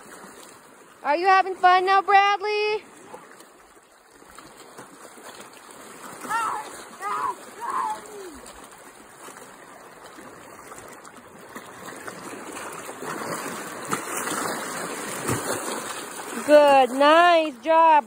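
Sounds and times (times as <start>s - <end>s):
water splashing over boulders: 0.0s - 18.0s.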